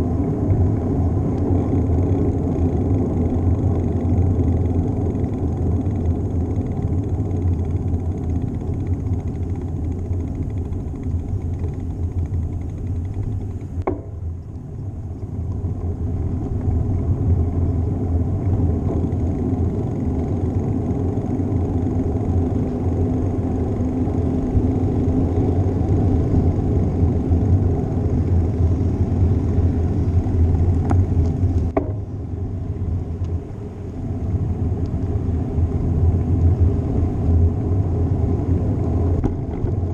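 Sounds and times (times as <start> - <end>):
tyre and road noise: 0.0 - 39.9
wind rumbling on microphone: 0.0 - 39.9.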